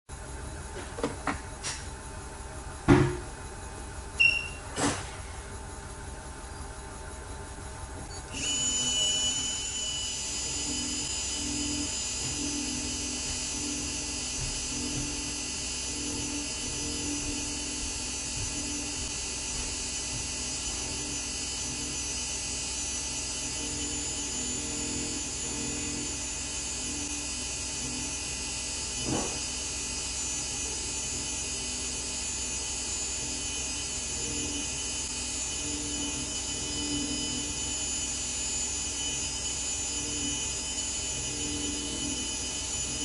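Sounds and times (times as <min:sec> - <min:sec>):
dental motor handpiece whine: 0:06.4 - 0:43.0.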